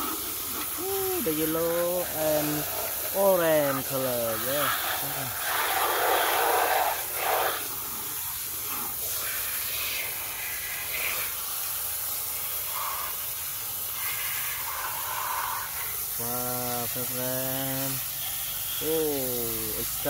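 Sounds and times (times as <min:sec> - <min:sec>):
hose water spraying: 0:00.0 - 0:20.0.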